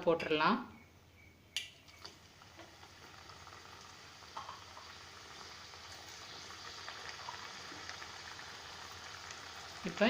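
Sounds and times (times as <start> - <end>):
food deep-frying in hot oil: 1.6 - 10.0
oil crackle: 1.6 - 10.0.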